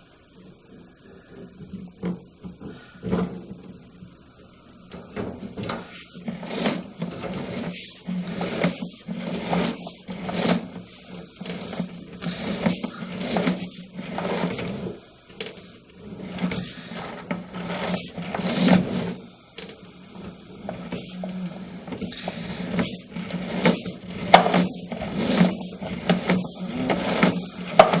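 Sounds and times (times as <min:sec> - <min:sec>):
steady low hum: 0:00.0 - 0:28.0
plumbing knocks and scraping: 0:00.4 - 0:04.1, 0:04.8 - 0:28.0.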